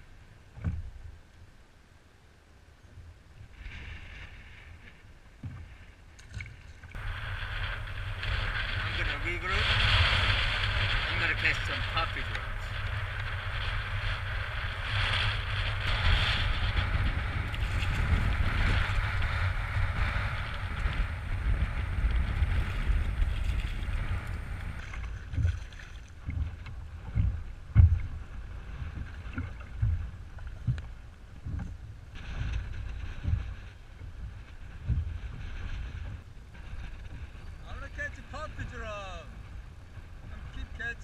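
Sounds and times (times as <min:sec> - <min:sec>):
choppy water: 0:00.0 - 0:41.0
wind buffeting the microphone: 0:03.0 - 0:41.0.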